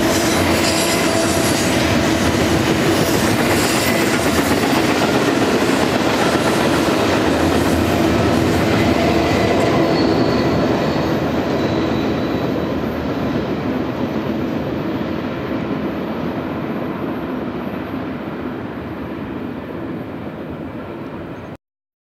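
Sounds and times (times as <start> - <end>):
freight cars rolling on rails: 0.0 - 17.9.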